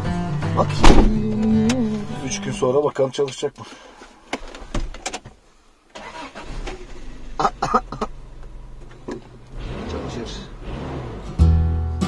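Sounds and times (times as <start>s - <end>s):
car engine starting and idling: 0.0s - 3.6s, 5.8s - 12.0s.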